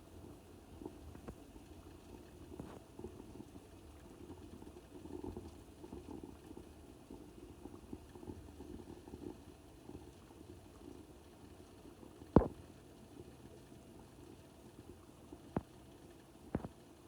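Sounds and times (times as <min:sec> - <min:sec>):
water boiling and bubbling: 0:00.0 - 0:17.0.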